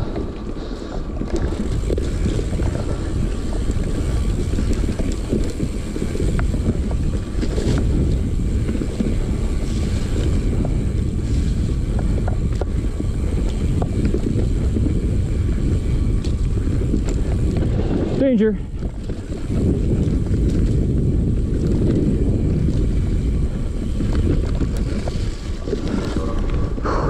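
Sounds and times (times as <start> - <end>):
bike ticks and rattles: 0.0 - 27.0
wind buffeting microphone: 0.0 - 27.0.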